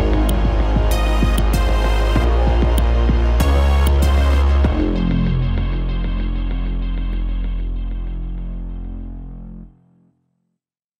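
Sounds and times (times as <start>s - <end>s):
electronic music with deep bass: 0.0s - 9.8s.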